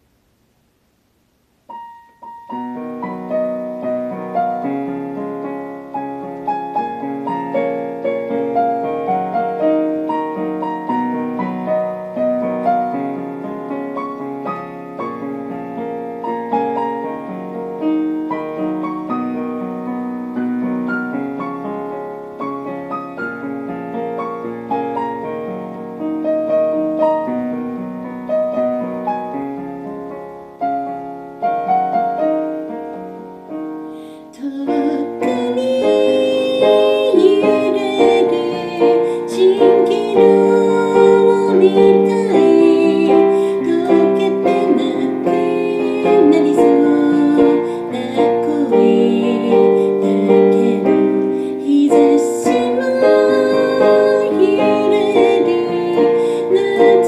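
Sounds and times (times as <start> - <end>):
piano chords and melody: 1.6 - 57.0.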